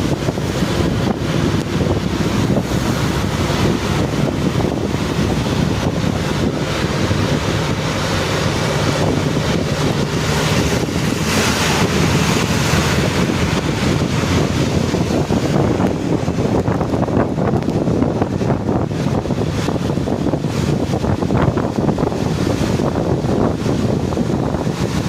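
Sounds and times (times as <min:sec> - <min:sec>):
bus road rumble: 0:00.0 - 0:25.0
wind buffeting microphone: 0:00.0 - 0:25.0.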